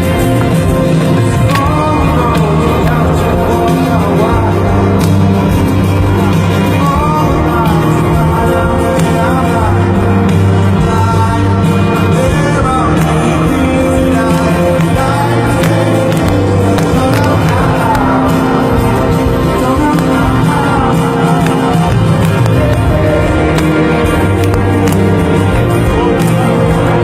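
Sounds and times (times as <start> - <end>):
crowd: 0.0 - 27.0
live rock band playing: 0.0 - 27.0
person singing: 0.0 - 27.0.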